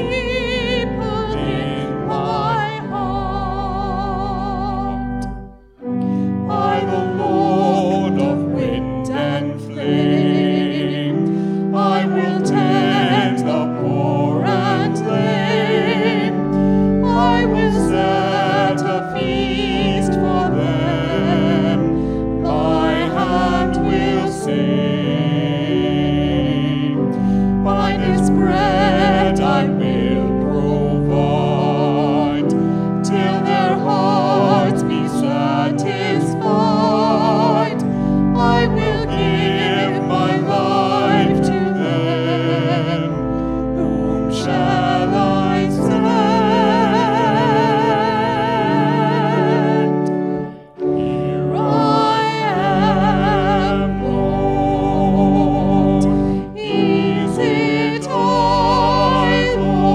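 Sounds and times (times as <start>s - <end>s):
instrumental accompaniment: 0.0s - 59.9s
voices singing a hymn: 0.0s - 59.9s.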